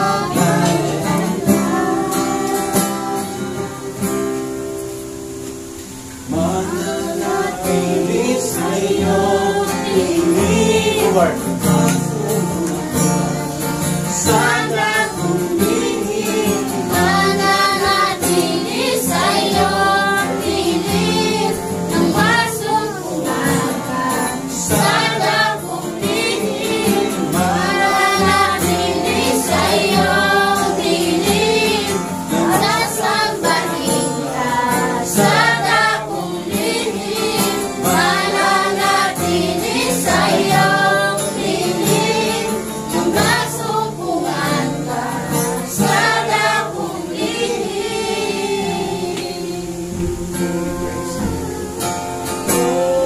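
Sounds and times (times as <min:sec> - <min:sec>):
congregation singing worship song: 0:00.0 - 0:53.0.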